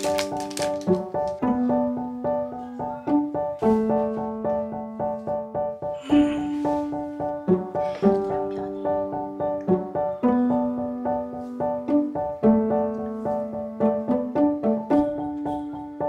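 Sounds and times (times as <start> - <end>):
light keyboard tune: 0.0 - 16.0.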